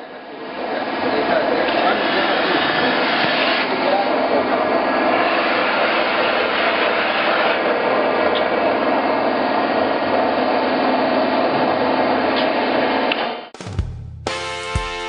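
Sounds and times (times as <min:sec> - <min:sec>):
press brake machine running: 0:00.5 - 0:13.4.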